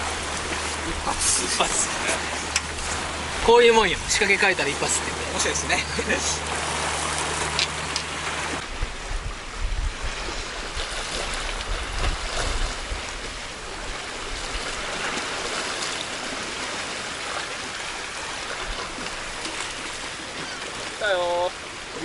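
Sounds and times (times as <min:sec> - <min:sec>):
sea water splashing on rocks: 0:00.0 - 0:22.0.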